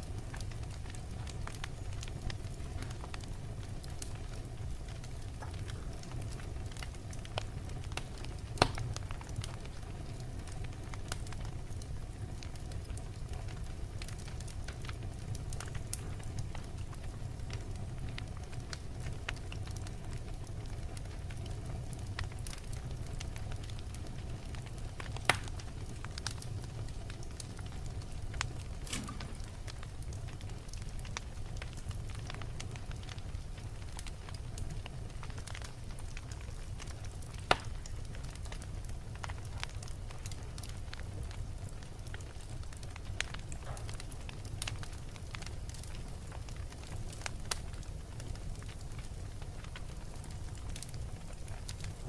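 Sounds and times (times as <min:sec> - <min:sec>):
fire popping: 0:00.0 - 0:52.0
wood fire crackling: 0:00.0 - 0:52.0.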